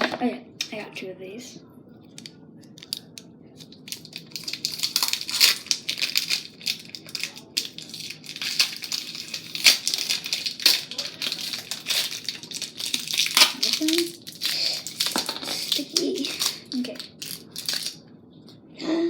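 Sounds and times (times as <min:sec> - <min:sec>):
crinkling plastic package: 0:02.2 - 0:18.0.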